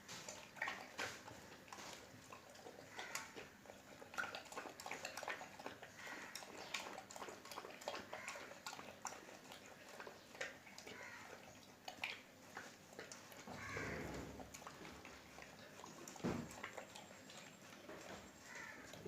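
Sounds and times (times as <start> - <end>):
dog eating wet smacking: 0.0 - 19.0.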